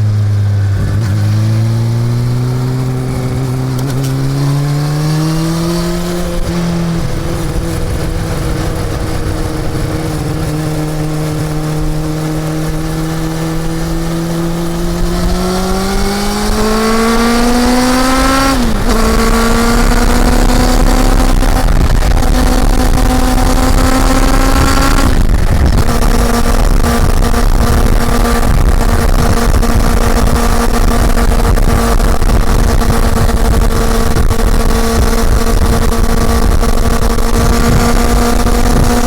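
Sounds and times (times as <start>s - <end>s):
low rushing noise: 0.0s - 39.0s
motorcycle engine revving: 0.0s - 39.0s.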